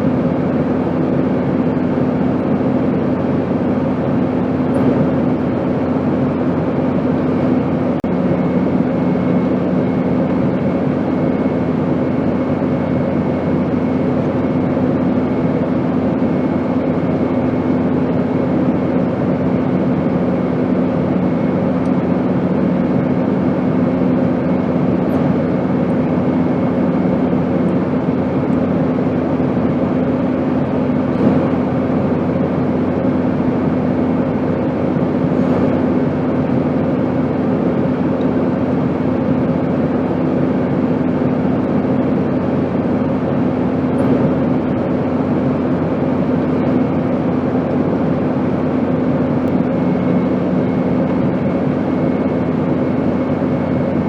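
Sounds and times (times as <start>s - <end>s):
airplane engine drone: 0.0s - 54.0s
low hum: 0.0s - 54.0s.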